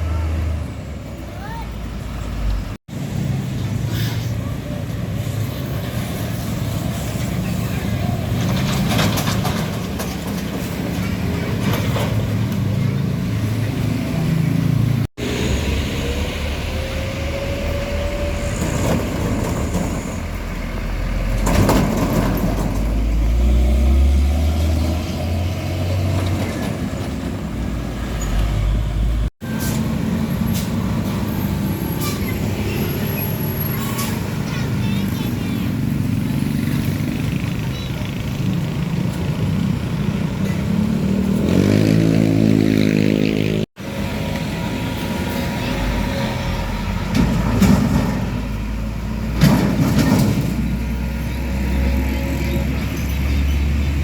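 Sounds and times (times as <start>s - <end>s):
heavy trucks driving past: 0.0s - 54.0s.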